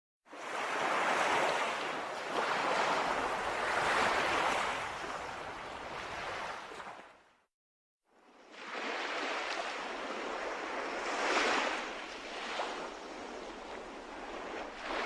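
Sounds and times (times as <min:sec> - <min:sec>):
sea waves washing in: 0:00.3 - 0:07.1, 0:08.3 - 0:15.0.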